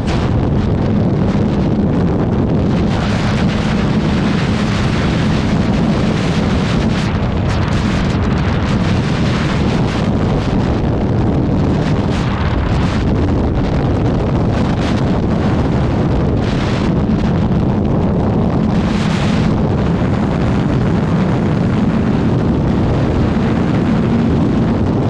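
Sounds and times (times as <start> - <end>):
motorcycle engine drone: 0.0 - 25.0
wind buffeting microphone: 0.0 - 25.0.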